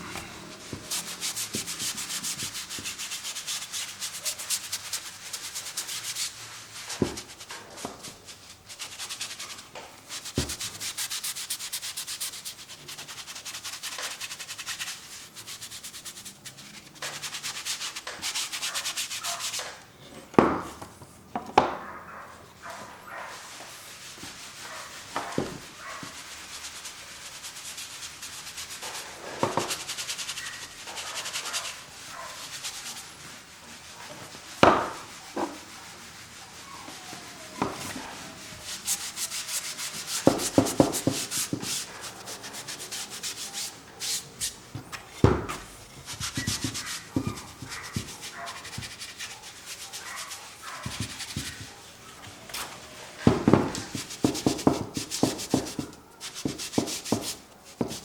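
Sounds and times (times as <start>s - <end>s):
paint brush rubbing on canvas: 0.0s - 19.8s, 22.2s - 58.0s.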